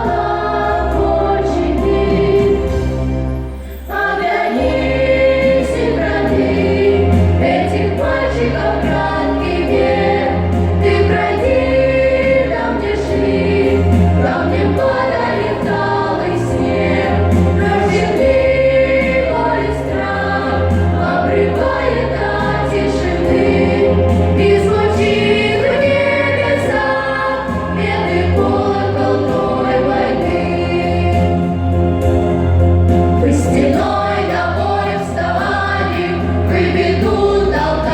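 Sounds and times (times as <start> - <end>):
choir singing: 0.0 - 37.9
instrumental accompaniment: 0.0 - 37.9
held bass line: 4.6 - 37.9.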